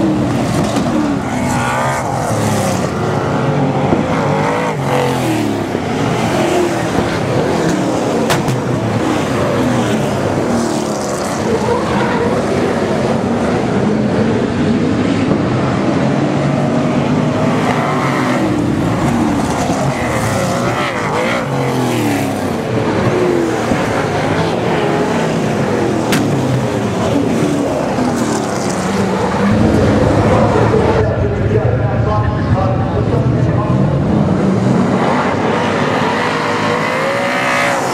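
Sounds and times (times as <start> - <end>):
racing car engines passing: 0.0 - 37.9.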